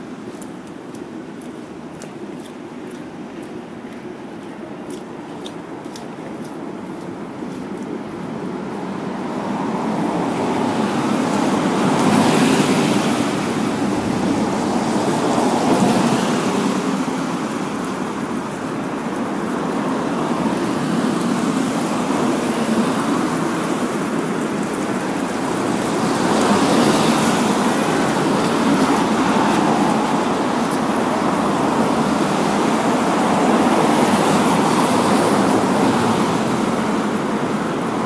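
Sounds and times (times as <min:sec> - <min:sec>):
cars driving past on wet asphalt: 0:06.4 - 0:38.0.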